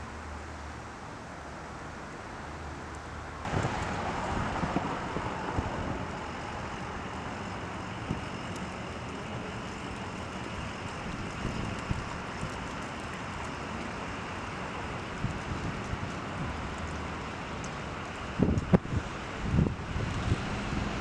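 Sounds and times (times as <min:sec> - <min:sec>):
passing cars hum: 0:00.0 - 0:21.0.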